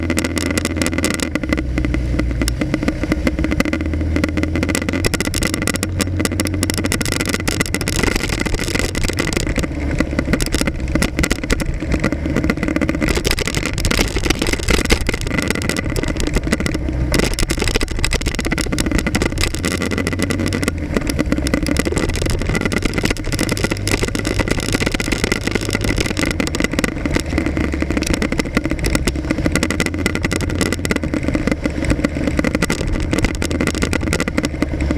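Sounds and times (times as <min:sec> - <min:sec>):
motorcycle engine revving: 0:00.0 - 0:34.9
road and traffic noise: 0:00.0 - 0:34.9.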